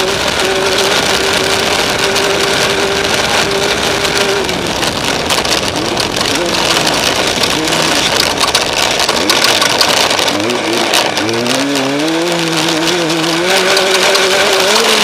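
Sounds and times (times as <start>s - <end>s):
off-road vehicle engine: 0.0s - 15.0s
wind and terrain noise: 0.0s - 15.0s.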